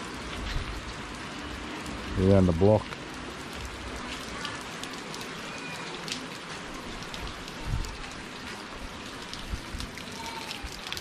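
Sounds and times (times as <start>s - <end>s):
rain on concrete: 0.0s - 11.0s.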